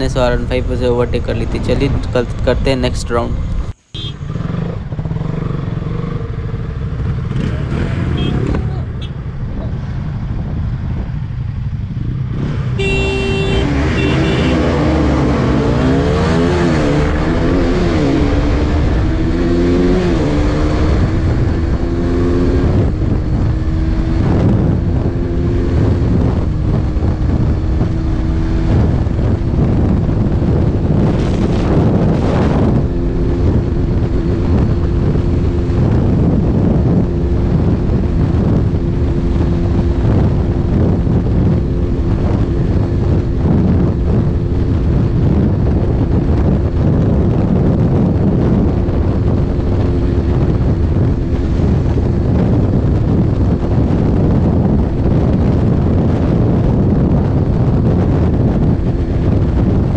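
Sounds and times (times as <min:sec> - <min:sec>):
motorcycle engine at full throttle: 0:03.2 - 0:59.9.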